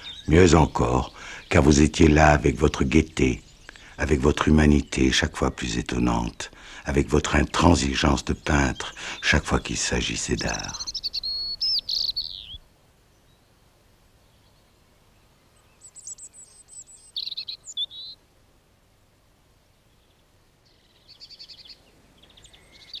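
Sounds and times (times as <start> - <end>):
small songbirds singing: 0.0 - 13.6, 14.2 - 18.2, 19.7 - 23.0.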